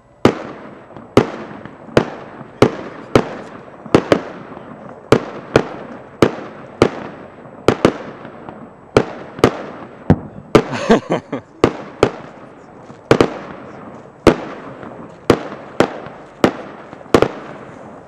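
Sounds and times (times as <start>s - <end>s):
fireworks bangs with echo: 0.2s - 18.0s.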